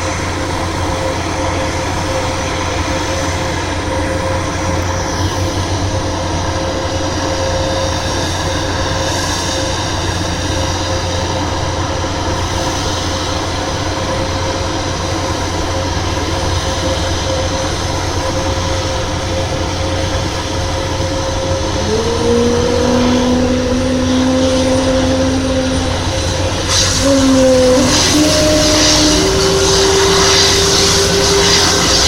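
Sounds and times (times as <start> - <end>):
turboprop aircraft running: 0.0 - 32.0.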